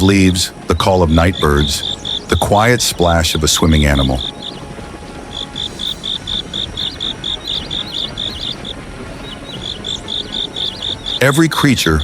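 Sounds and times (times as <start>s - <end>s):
cricket chirping: 0.0s - 11.6s.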